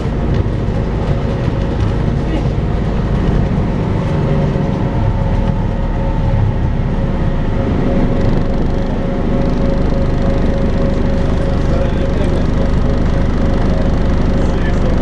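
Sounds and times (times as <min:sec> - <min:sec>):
bus engine rumbling: 0:00.0 - 0:15.0
vacuum-like whine: 0:00.0 - 0:15.0.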